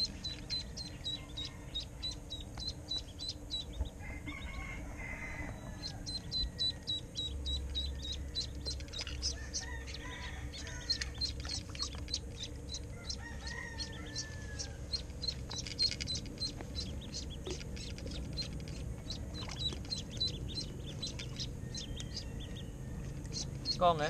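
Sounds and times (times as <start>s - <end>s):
duckling peeping: 0.0s - 4.7s, 5.4s - 24.0s.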